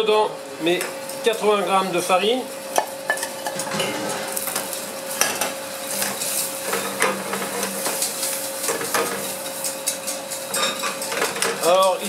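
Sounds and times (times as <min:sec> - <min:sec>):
light sizzle: 0:00.6 - 0:12.0.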